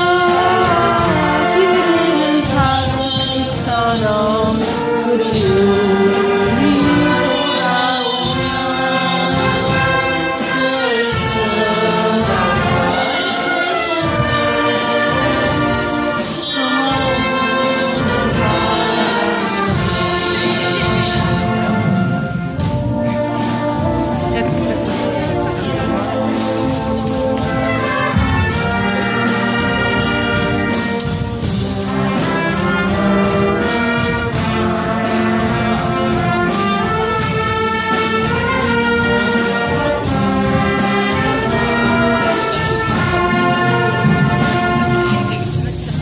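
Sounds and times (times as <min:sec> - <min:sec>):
brass and woodwinds playing chords: 0:00.0 - 0:46.0
percussion beat: 0:00.0 - 0:46.0.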